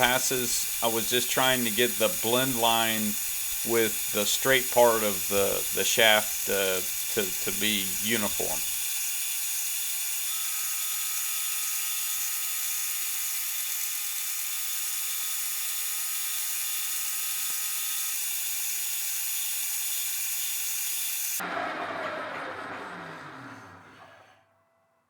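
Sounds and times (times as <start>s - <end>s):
metal lathe whining: 0.0s - 12.6s, 14.6s - 24.7s.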